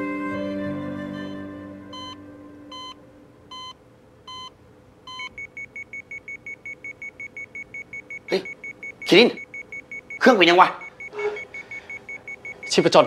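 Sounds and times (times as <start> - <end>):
patient monitor slow beeps: 1.2 - 4.5, 5.1 - 13.0
rapid high alarm beeps: 2.0 - 4.5, 5.1 - 13.0.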